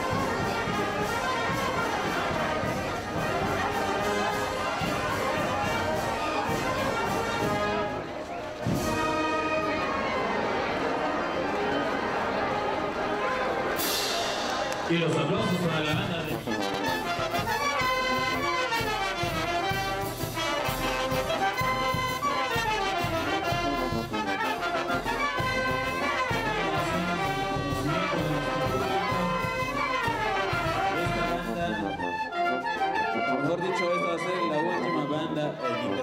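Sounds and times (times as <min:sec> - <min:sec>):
brass band playing dance music: 0:00.0 - 0:36.0.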